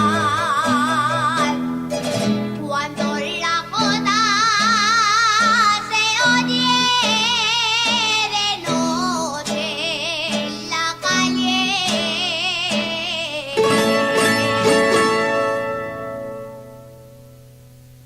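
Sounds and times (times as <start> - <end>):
woman singing with vibrato: 0.0 - 16.2
plucked string accompaniment: 0.0 - 18.0.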